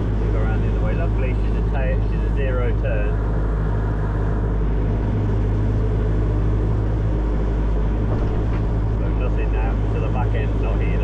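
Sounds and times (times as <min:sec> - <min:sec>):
diesel engine low rumble: 0:00.0 - 0:11.0.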